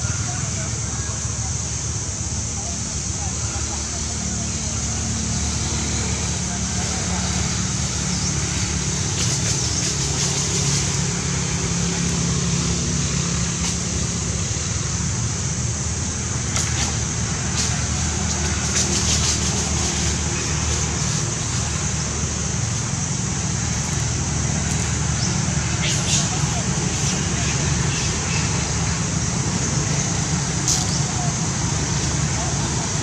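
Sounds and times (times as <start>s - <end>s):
high hiss: 0.0s - 33.0s
low engine hum: 0.0s - 33.0s.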